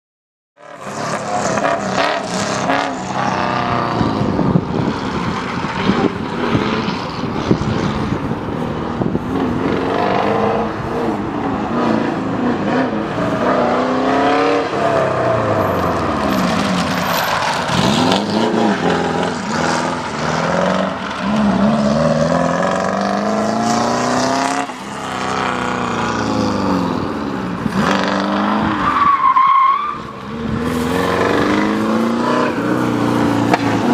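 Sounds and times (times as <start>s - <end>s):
race car engine revving: 0.6s - 29.0s, 30.1s - 33.9s.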